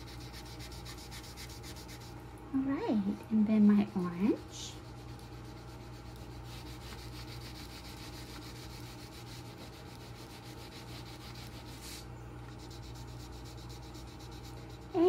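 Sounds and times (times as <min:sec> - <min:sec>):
wax crayon scribbling on paper: 0:00.0 - 0:02.2, 0:03.6 - 0:15.0.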